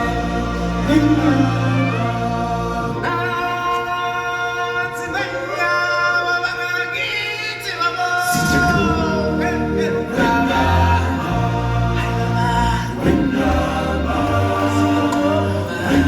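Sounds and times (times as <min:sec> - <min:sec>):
choir singing long held notes: 0:00.0 - 0:06.4, 0:08.1 - 0:16.0.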